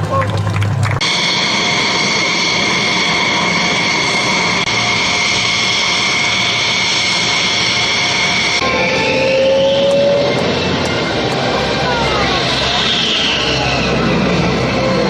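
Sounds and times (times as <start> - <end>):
jet engine whining and roaring: 0.0 - 15.0.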